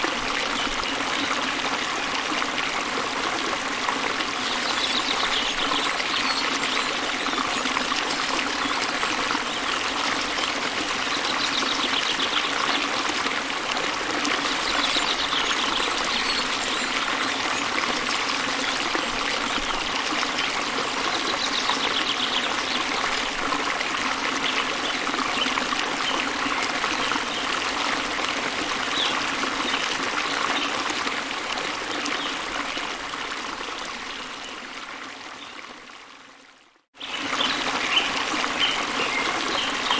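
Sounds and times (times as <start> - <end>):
waterfall pouring and splashing: 0.0 - 35.6, 37.0 - 39.9.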